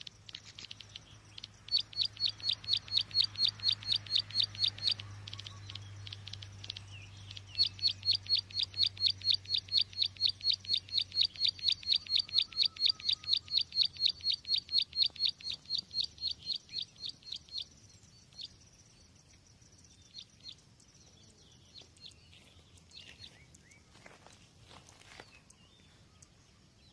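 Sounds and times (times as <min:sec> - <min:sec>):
low steady hum: 0:00.0 - 0:24.7
faint bird chirps: 0:00.0 - 0:26.9.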